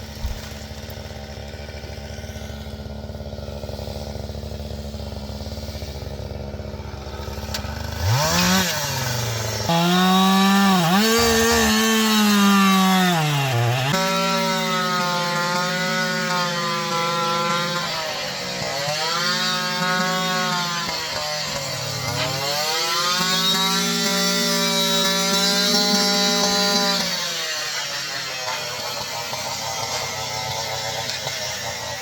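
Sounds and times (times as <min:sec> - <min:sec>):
chainsaw revving and cutting: 0:00.0 - 0:32.0.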